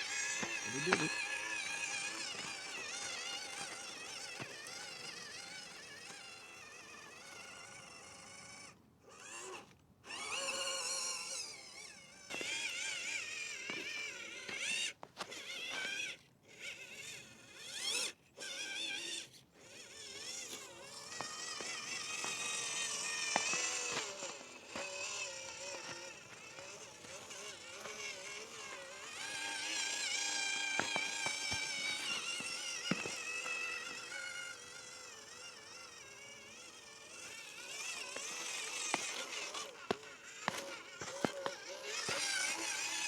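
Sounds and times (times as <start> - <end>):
electric motor and gearbox whining: 0.0 - 43.0.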